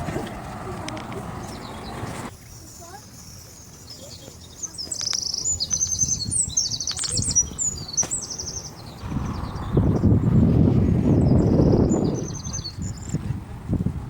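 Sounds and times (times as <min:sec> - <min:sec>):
small birds chirping: 0:00.3 - 0:13.2.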